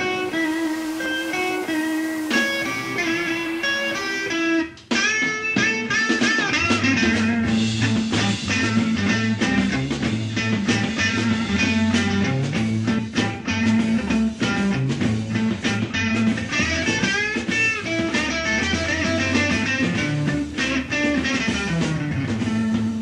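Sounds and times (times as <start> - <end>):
bass guitar: 0.0 - 23.0
electric guitar: 0.0 - 23.0
steady drum beat: 0.0 - 23.0.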